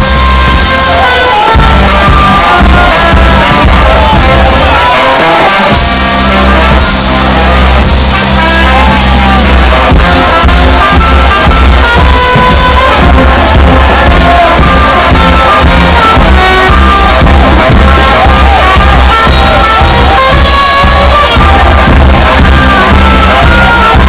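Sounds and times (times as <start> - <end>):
loud band music with heavy bass: 0.0 - 24.0.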